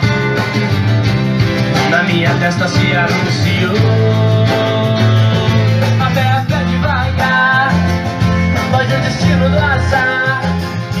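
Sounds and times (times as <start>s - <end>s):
wavering melodic line: 0.0s - 10.4s
pop-rock song with guitar: 0.0s - 11.0s.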